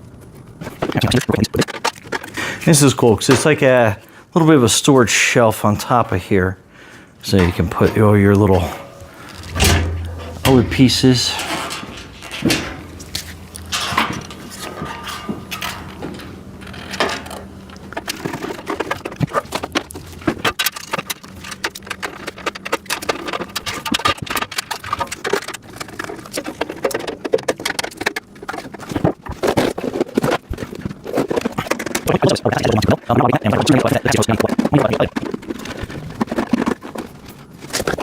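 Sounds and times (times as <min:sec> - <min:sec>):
plastic parts clicking and rattling: 0:00.2 - 0:02.4, 0:07.3 - 0:38.0.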